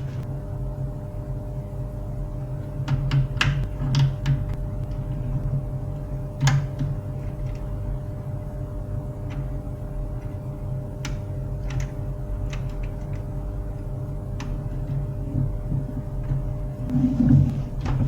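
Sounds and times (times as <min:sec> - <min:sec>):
printer humming: 0:00.0 - 0:18.0.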